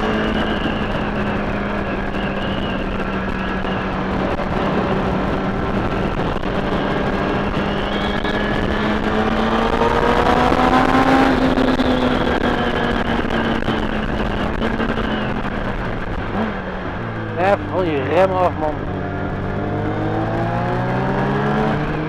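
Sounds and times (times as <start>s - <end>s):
heavy wind noise: 0.0s - 22.0s
motorcycle engine running: 0.0s - 22.0s.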